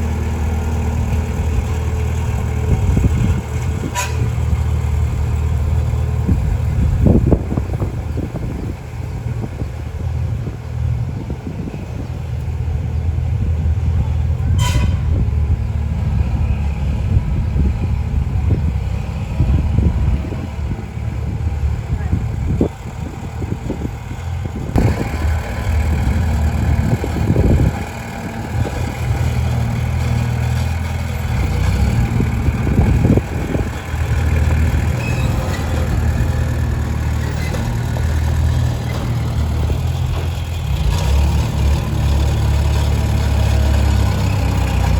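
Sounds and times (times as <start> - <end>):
diesel machinery engine drone: 0.0 - 44.9.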